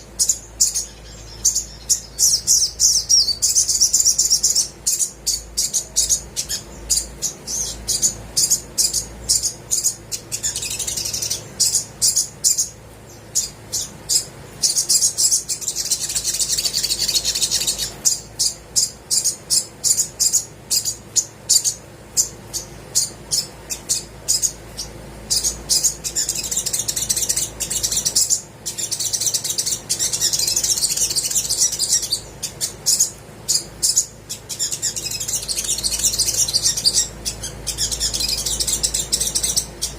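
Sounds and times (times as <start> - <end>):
bird singing high chirps: 0.0 - 39.9
fast high bird twittering: 0.0 - 39.9.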